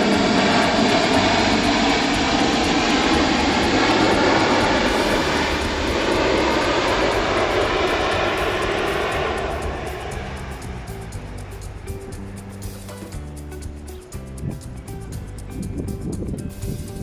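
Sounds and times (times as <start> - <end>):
jet engines roaring: 0.0 - 14.2.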